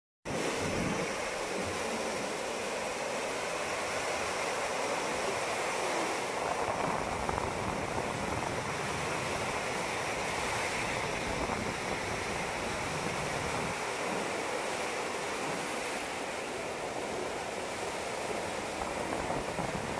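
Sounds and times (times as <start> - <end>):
ocean waves breaking: 0.3 - 19.9.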